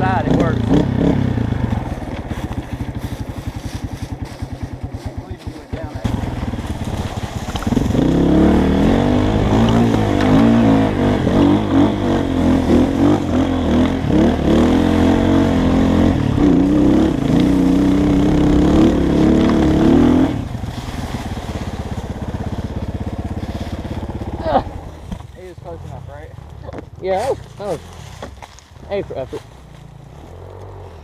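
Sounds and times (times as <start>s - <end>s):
dirt bike engine revving: 0.0s - 25.8s.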